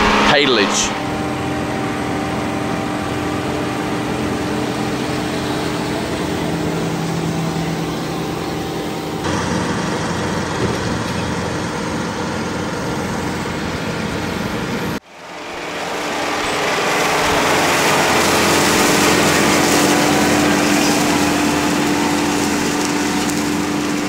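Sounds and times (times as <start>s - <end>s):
diesel tractor running under load: 0.0s - 24.0s.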